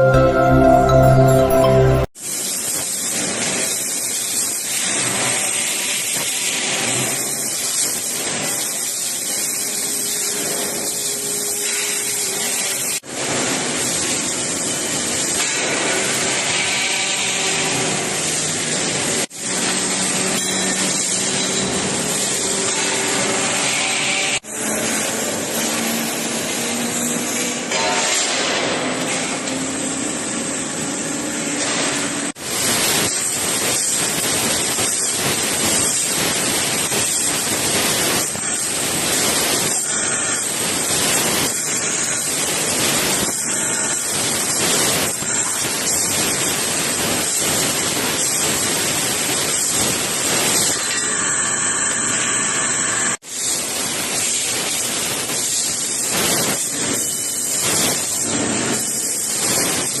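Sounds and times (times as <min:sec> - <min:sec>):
laser cutting machine hissing: 0:02.2 - 1:00.0.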